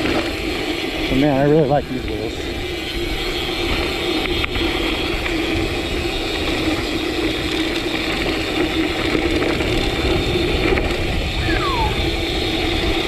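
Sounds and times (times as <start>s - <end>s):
bike hub ratchet buzzing: 0.0s - 13.0s
bike tyres on gravel: 0.0s - 13.0s.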